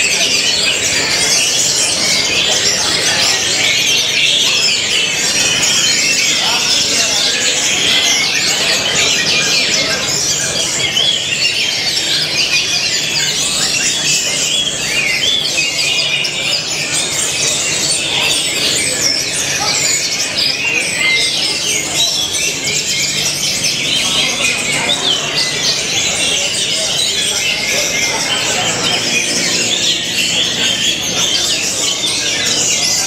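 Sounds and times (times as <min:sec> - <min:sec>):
thrushes singing: 0:00.0 - 0:33.0.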